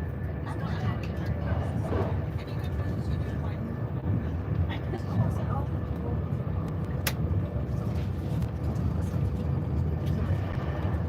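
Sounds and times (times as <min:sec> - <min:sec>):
train rumbling inside coach: 0:00.0 - 0:11.0.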